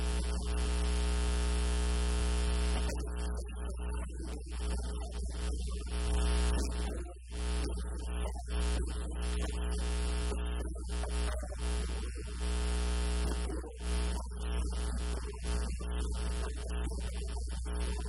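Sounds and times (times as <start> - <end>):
muffled man's voice: 0.0 - 1.0, 2.5 - 18.0.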